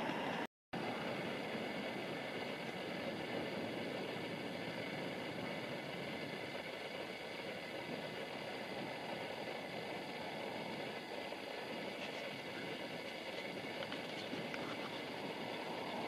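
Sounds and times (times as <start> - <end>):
distant train engine running: 0.0 - 16.0.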